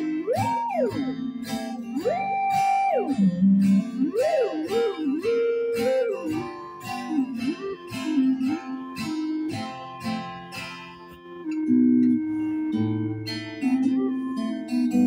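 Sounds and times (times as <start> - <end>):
strummed acoustic guitar: 0.0 - 15.0
theremin melody: 0.0 - 15.0.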